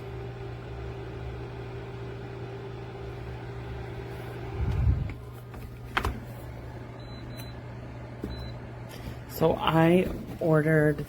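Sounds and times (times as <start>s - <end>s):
heater fan humming: 0.0s - 11.0s.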